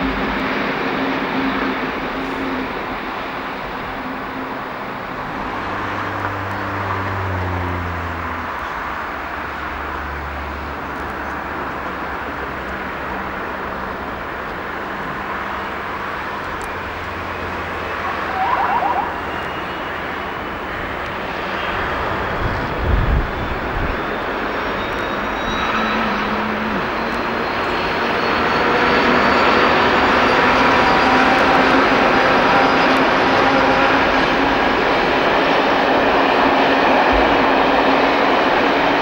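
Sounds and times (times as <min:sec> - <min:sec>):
diesel train engine running: 0:00.0 - 0:39.0
turbocharger whine: 0:00.0 - 0:39.0.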